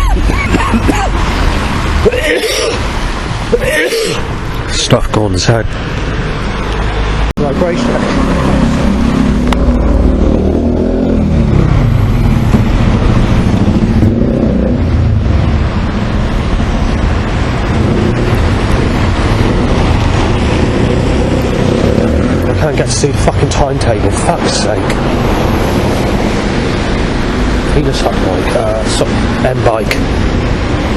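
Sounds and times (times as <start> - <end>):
bus engine rumbling: 0.0 - 30.9.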